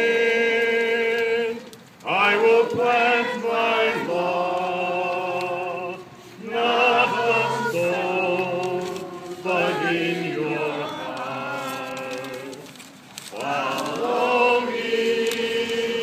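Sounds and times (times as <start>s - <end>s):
group singing a hymn: 0.0s - 16.0s.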